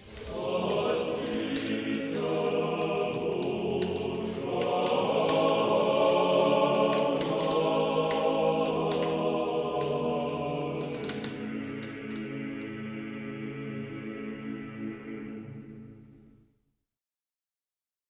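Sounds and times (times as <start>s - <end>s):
choir singing unaccompanied chant: 0.0s - 16.2s.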